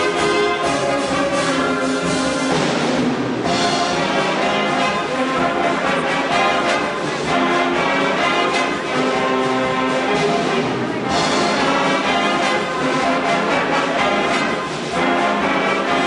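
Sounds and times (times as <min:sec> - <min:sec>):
big band playing held chords: 0:00.0 - 0:16.0.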